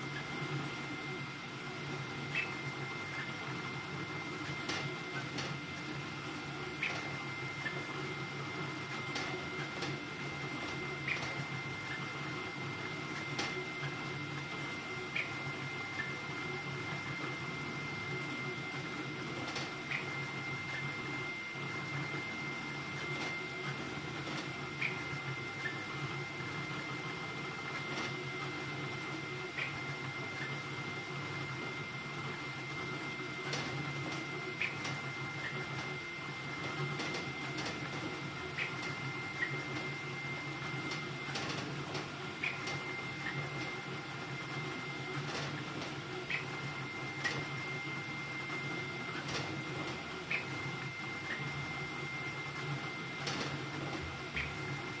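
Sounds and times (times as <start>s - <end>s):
printer motor whine: 0.0s - 55.0s.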